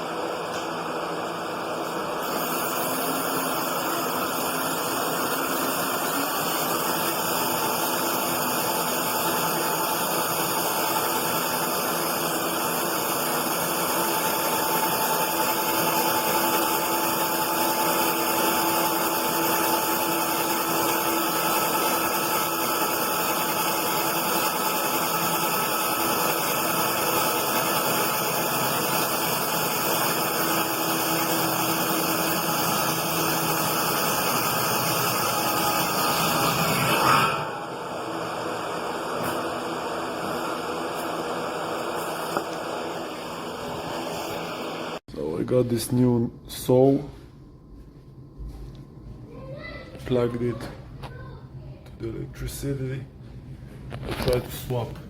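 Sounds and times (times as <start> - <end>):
machine running: 0.0 - 45.0.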